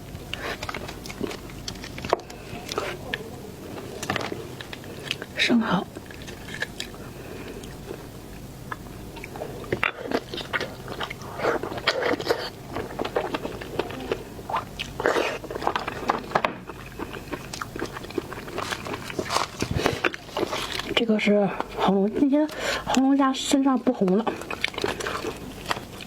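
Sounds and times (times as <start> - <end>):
person chewing seafood: 0.0 - 23.0, 24.0 - 26.0.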